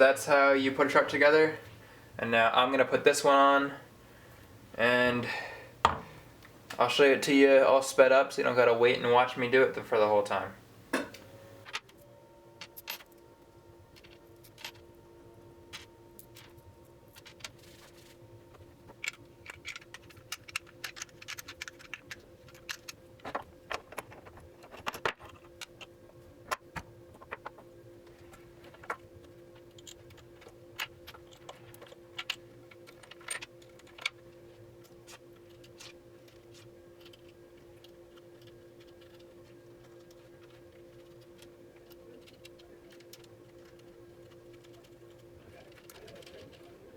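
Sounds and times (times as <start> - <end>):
faint hum: 0.0 - 46.9.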